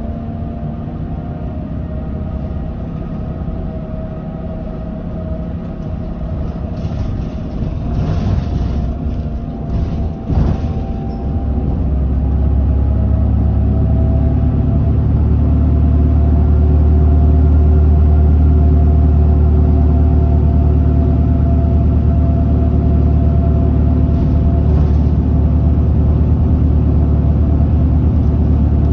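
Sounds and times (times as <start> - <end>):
bus engine and road rumble: 0.0 - 28.9.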